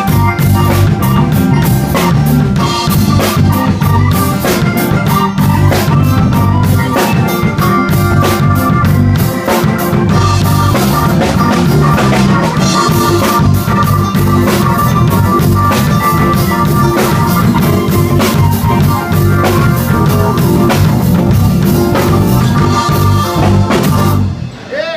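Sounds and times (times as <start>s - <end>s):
drum kit beat: 0.0s - 24.5s
live blues band: 0.0s - 24.5s.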